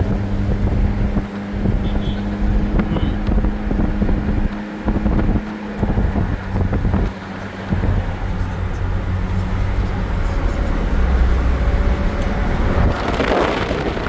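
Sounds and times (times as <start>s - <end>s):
car engine and road noise: 0.0s - 14.0s
wind buffeting microphone: 0.0s - 14.0s
rattles and bumps: 0.1s - 14.0s.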